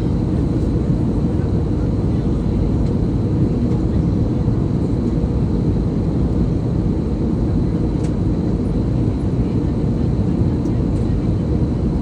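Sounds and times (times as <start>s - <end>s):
aircraft rumble: 0.0s - 12.0s.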